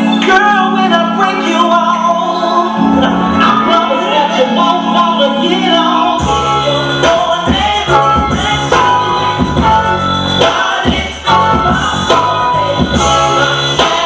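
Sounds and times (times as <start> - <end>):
person singing: 0.0 - 14.0
low chords and beat: 0.9 - 14.0.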